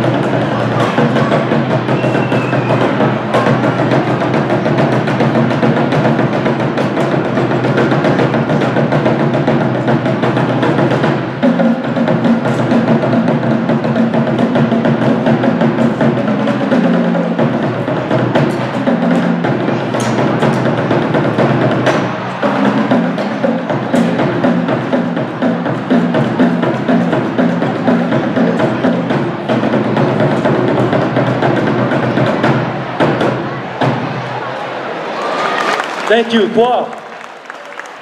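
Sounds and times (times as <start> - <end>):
large drum beating rapidly: 0.0 - 34.2.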